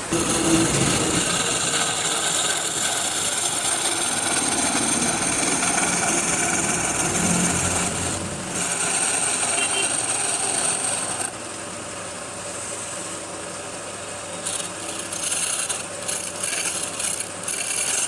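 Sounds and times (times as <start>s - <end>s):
wood lathe hissing: 0.0s - 11.8s, 14.3s - 18.0s.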